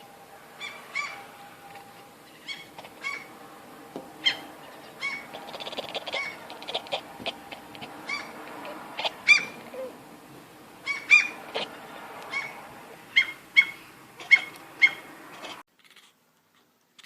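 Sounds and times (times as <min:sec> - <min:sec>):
cat chirping: 0:00.6 - 0:03.4, 0:04.1 - 0:10.0, 0:10.8 - 0:16.0.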